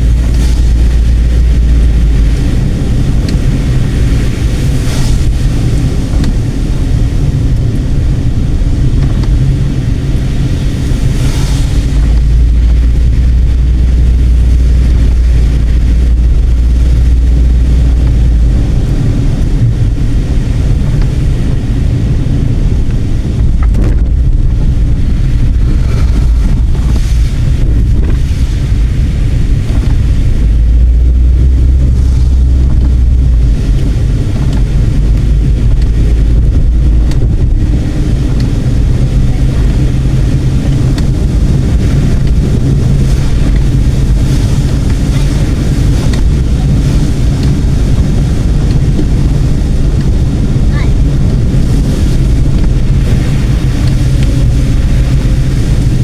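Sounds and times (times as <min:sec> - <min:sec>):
car road and engine rumble: 0:00.0 - 0:56.0
low buffeting: 0:00.0 - 0:56.0.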